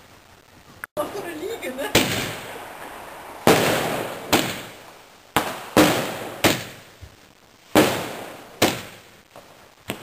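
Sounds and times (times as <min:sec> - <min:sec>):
fireworks bangs: 0:01.0 - 0:10.0.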